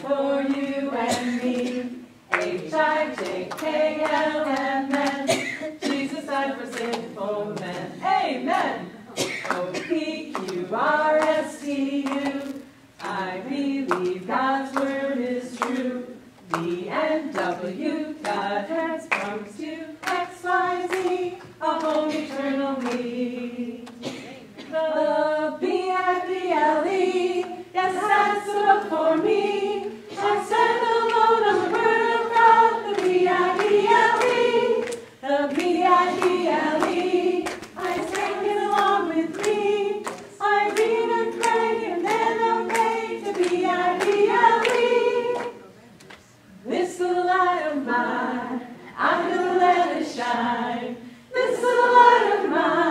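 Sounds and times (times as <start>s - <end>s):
women singing children's song: 0.0s - 45.6s, 46.6s - 52.9s.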